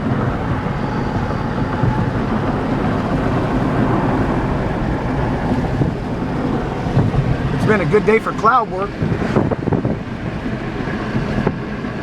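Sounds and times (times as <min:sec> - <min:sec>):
car driving rumble: 0:00.0 - 0:12.0
wind on microphone: 0:00.0 - 0:12.0.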